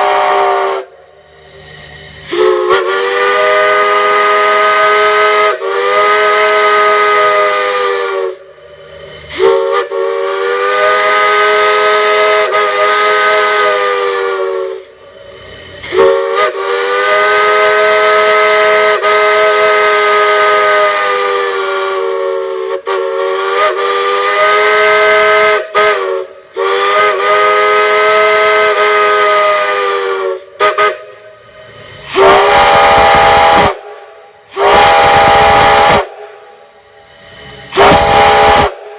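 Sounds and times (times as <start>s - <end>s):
multi-chime steam whistle: 0.0s - 38.9s.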